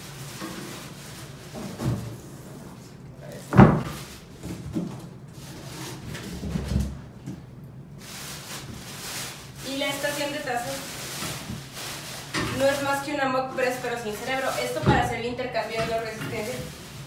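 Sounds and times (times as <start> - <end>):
plastic wrap rustling: 0.0 - 7.0, 7.9 - 17.0.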